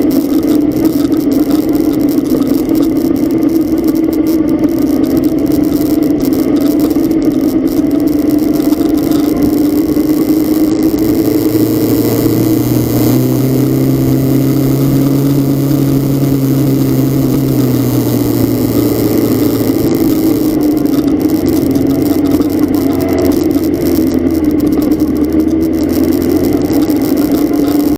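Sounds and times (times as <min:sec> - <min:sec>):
car engine running: 0:00.0 - 0:27.9
constant even noise: 0:00.0 - 0:27.9.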